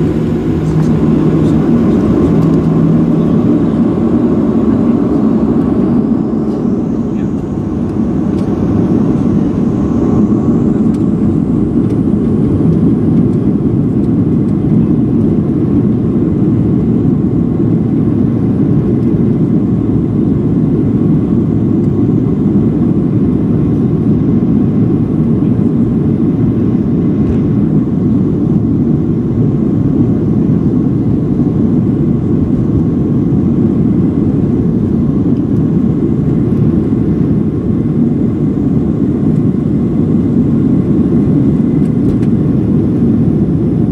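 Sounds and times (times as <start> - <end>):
airliner cabin engine and air noise: 0.0 - 43.9.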